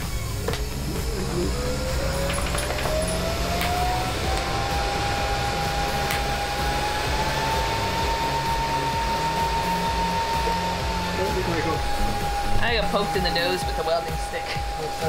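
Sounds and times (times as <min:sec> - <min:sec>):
steady whine: 0:00.0 - 0:15.0
welding arc crackling: 0:00.0 - 0:15.0.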